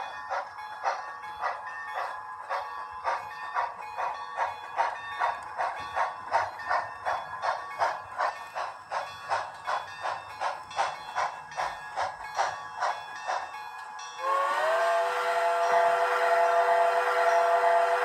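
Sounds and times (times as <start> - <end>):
model steam locomotive chuffing: 0.0 - 18.0.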